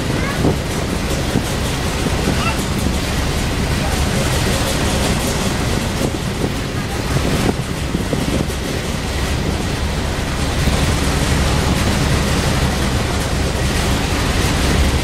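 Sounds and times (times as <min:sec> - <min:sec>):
vehicle rumbling: 0:00.0 - 0:15.0
wind noise on microphone: 0:00.0 - 0:15.0.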